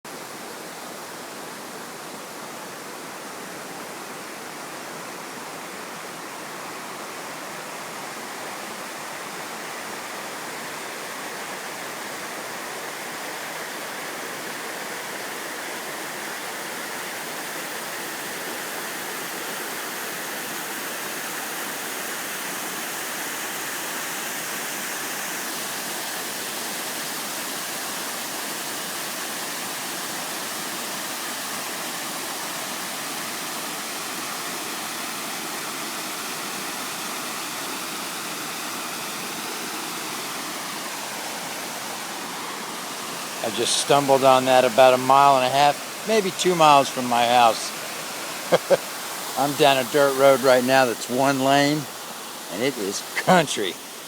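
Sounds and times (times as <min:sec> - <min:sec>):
waterfall splashing: 0:00.2 - 0:54.0.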